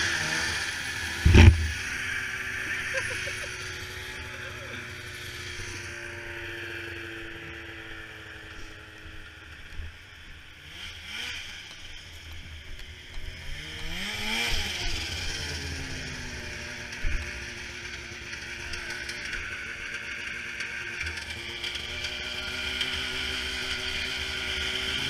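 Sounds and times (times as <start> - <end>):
snowmobile engine revving: 0.0 - 9.5, 10.6 - 12.2, 13.2 - 25.0.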